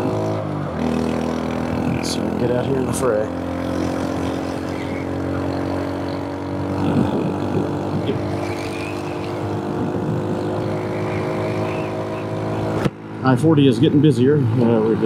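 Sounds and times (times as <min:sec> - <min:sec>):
motorcycle engine drone: 0:00.0 - 0:15.0
road noise: 0:00.0 - 0:15.0.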